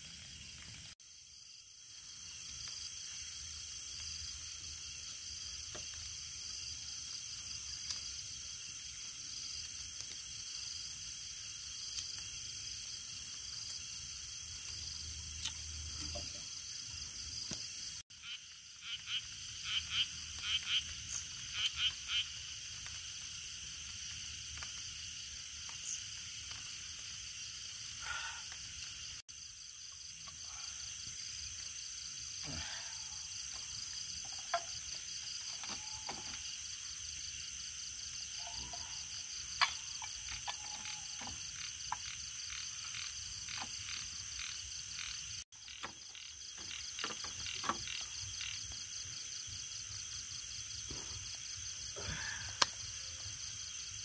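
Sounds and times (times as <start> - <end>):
frogs and insects trilling: 0.0 - 54.0.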